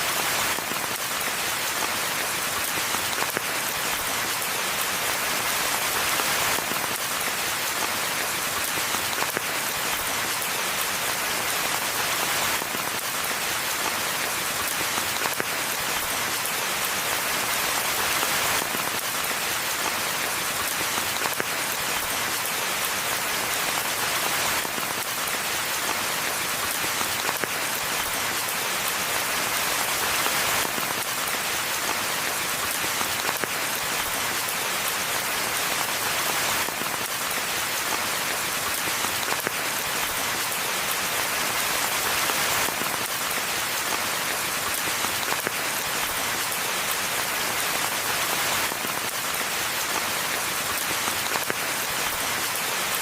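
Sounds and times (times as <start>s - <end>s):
steady rainfall: 0.0s - 53.0s.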